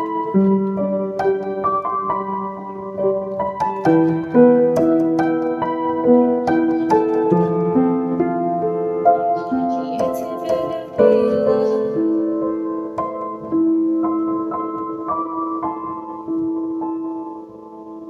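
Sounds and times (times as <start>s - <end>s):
slow keyboard melody: 0.0s - 18.0s.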